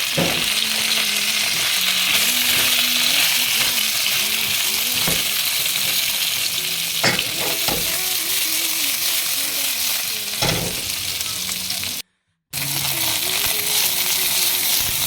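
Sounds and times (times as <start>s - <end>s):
eggplant sizzling in oil: 0.0s - 12.0s, 12.6s - 15.0s.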